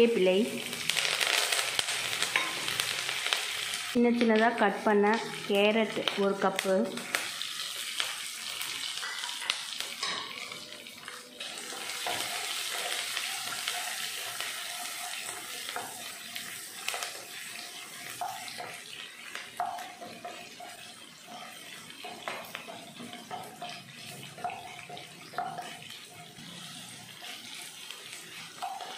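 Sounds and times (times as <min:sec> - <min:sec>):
vegetables sizzling in hot oil: 0:00.0 - 0:28.9.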